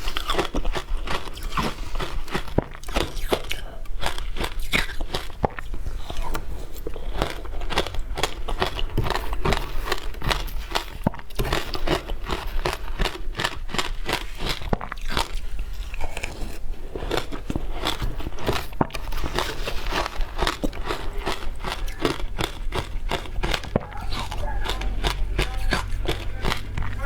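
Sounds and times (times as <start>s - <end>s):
crunchy ice chewing: 0.0s - 27.0s.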